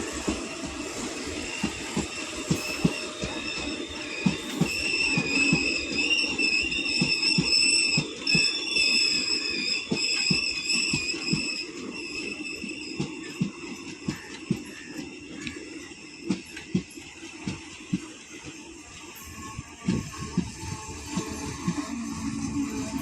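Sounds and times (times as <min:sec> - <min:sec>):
high wavering wheel squeal: 0:00.0 - 0:23.0
train wheels knocking over rail joints: 0:00.0 - 0:23.0.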